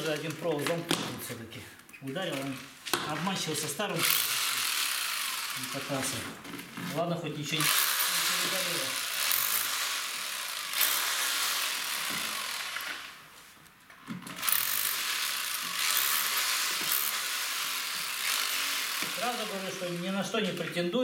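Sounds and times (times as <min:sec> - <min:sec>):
power drill grinding into plaster: 0:02.3 - 0:13.3, 0:14.1 - 0:20.5.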